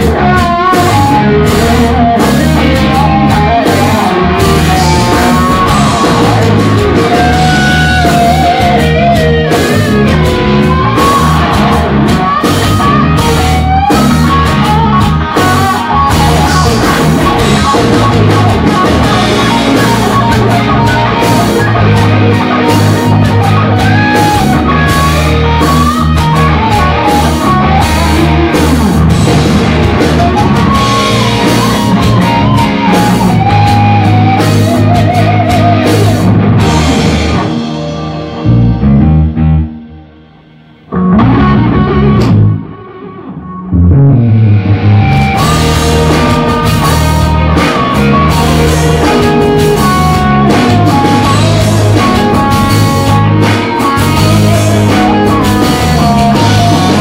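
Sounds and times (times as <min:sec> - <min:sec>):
distorted electric guitar lead: 0:00.0 - 0:57.0
drums: 0:00.0 - 0:57.0.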